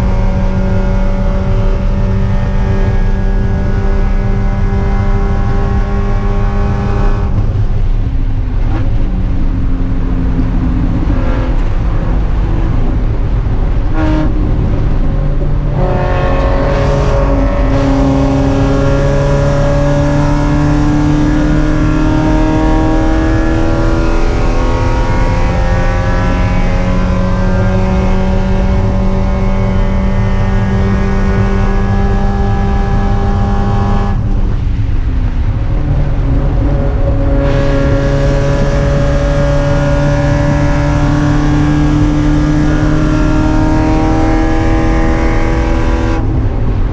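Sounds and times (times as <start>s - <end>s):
race car engine: 0.0s - 46.9s.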